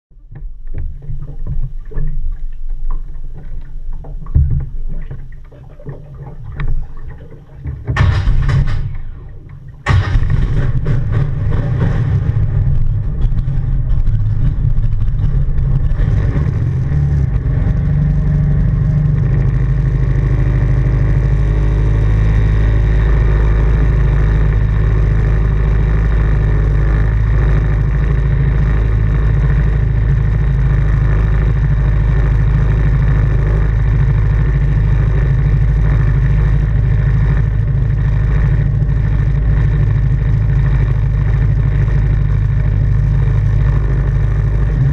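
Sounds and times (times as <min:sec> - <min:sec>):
boat engine running hard: 0:00.2 - 0:44.9.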